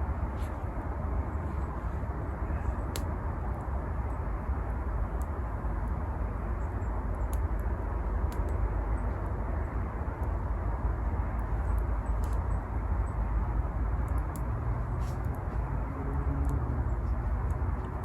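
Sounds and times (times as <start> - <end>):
low outdoor rumble: 0.0 - 18.0
campfire crackles: 0.1 - 18.0.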